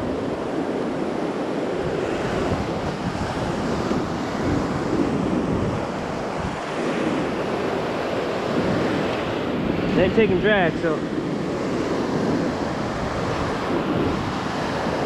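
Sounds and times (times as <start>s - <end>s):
ocean surf breaking on sand: 0.0s - 15.0s
wind on microphone: 0.0s - 15.0s.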